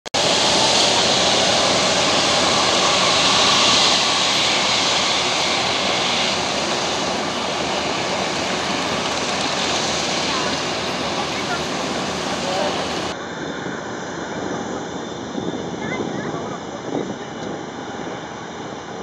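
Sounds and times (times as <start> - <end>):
jet engines rushing hiss: 0.1 - 19.0.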